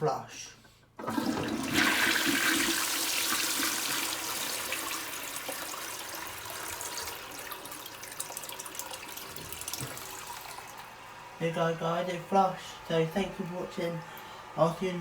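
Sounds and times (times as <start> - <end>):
toilet flushing: 1.0 - 15.0.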